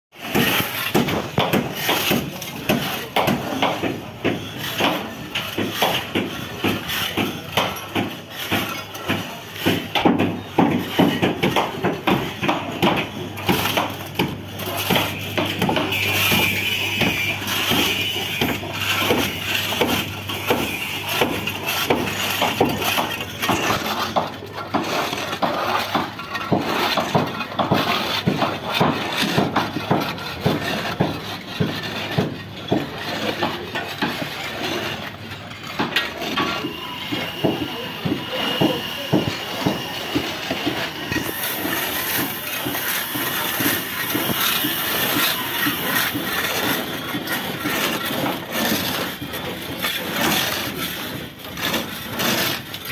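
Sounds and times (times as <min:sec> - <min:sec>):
scrapers scraping a ship's hull: 0:00.2 - 0:52.9.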